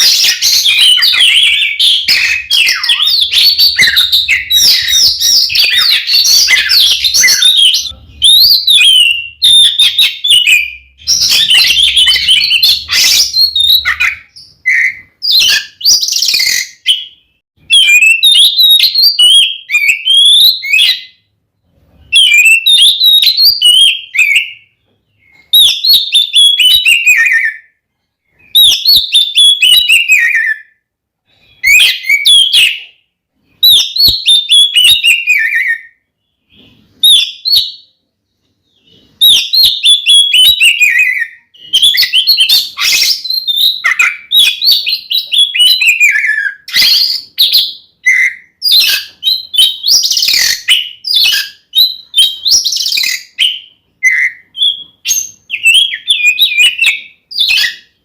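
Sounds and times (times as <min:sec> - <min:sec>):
bird singing whistled song: 0:00.0 - 0:21.3, 0:21.9 - 0:38.0, 0:38.6 - 0:58.0.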